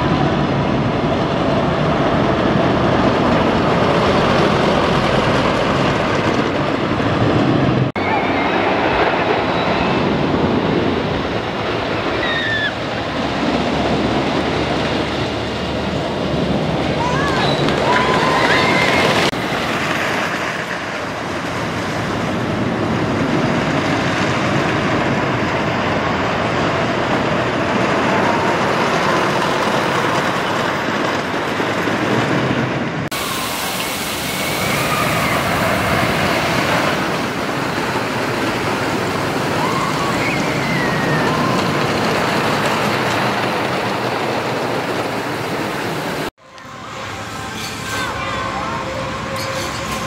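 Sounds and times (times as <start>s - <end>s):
wooden roller coaster rumbling: 0.0s - 50.0s.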